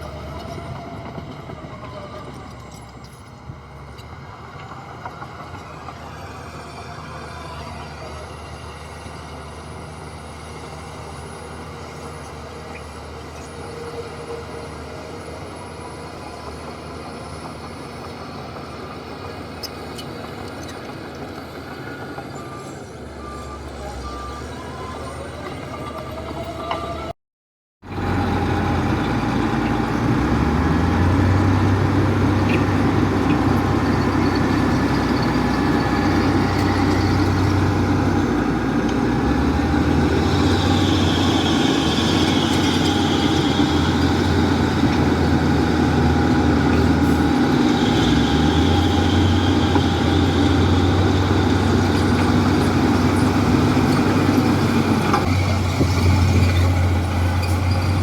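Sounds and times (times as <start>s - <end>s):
heavy machinery diesel engine: 0.0s - 27.1s, 27.8s - 58.0s.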